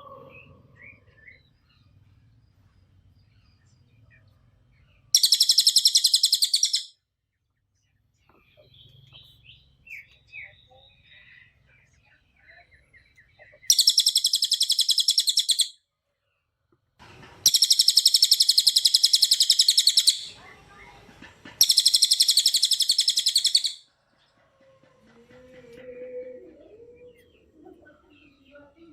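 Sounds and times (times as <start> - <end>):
songbird chirps and rapid trills: 0.0 - 16.4, 17.4 - 28.9.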